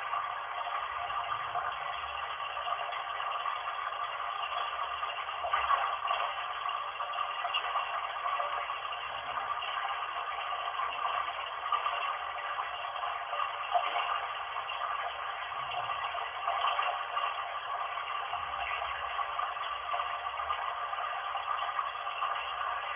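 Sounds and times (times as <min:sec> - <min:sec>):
bath water running: 0:00.0 - 0:22.9.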